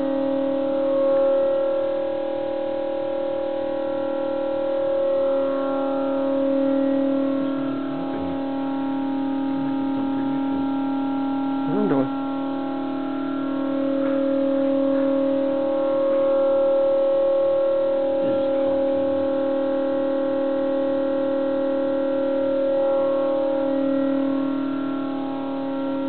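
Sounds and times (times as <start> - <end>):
refrigerator loud droning: 0.0 - 26.0.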